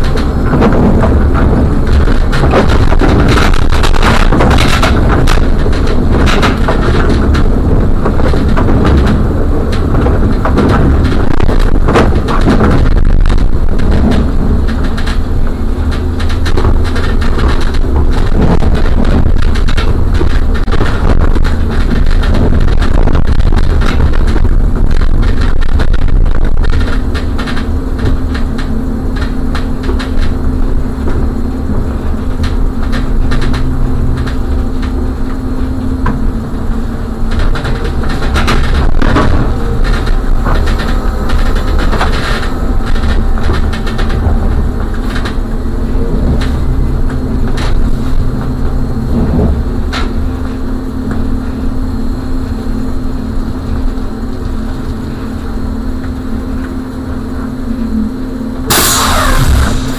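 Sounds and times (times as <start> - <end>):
clicks and rattles: 0.0 - 51.3
trolleybus hum and rumble: 0.0 - 59.9.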